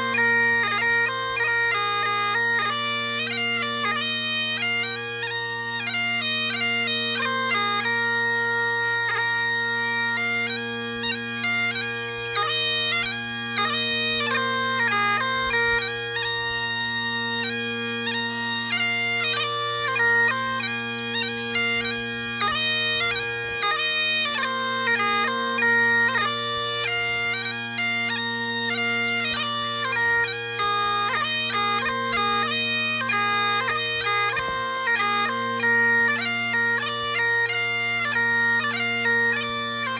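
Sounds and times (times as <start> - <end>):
bagpipes playing a march tune: 0.0 - 39.9.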